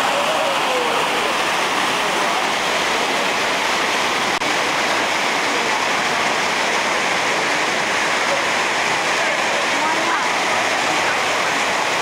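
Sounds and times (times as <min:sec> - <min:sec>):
whitewater rushing over rocks: 0:00.0 - 0:12.0.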